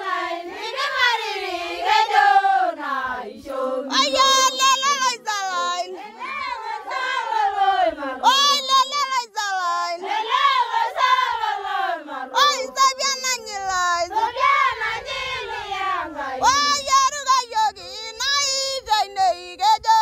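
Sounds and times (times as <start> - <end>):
high voice singing with tremble: 3.4 - 20.0.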